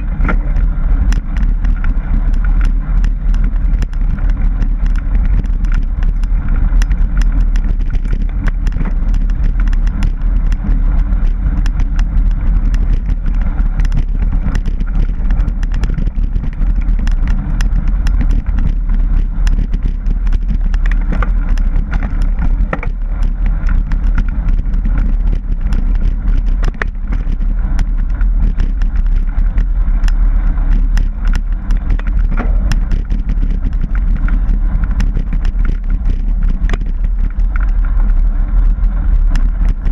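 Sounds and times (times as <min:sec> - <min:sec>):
bike clicks and rattles: 0:00.0 - 0:39.9
low rumble of wind and vibration: 0:00.0 - 0:39.9.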